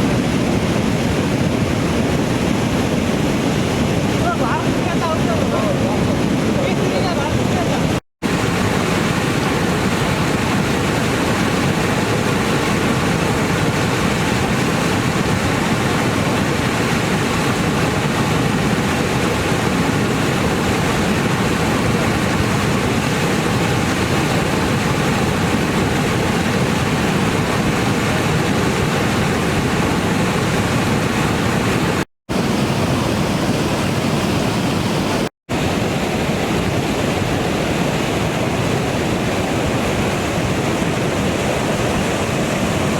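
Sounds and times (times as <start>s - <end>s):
rushing river water: 0.0s - 42.9s.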